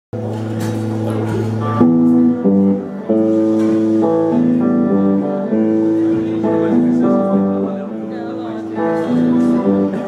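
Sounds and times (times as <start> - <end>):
electric guitar chords: 0.2 - 10.0.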